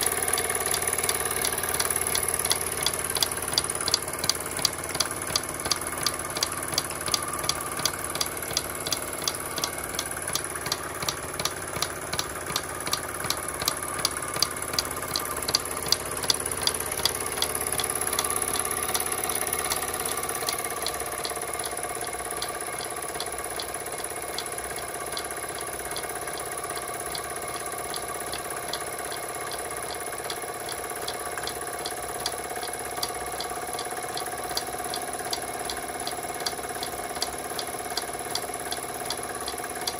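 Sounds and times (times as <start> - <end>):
regular mechanical clicking: 0.0 - 39.9
steam engine mechanical whir: 0.0 - 39.9.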